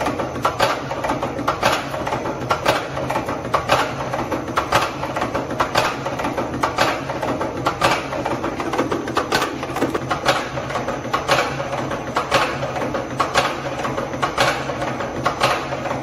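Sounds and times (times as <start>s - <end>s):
motor hum: 0.0s - 14.0s.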